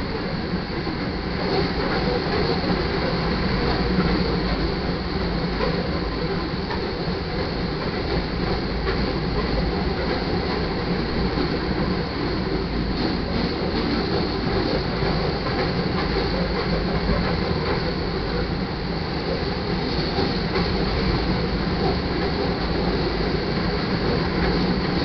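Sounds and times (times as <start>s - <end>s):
freight train wheels rumbling on rails: 0.0s - 25.0s.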